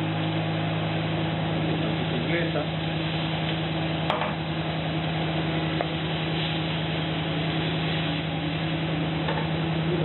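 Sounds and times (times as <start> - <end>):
kitchen hum: 0.0 - 10.0
vegetables frying in a pan: 0.0 - 10.0.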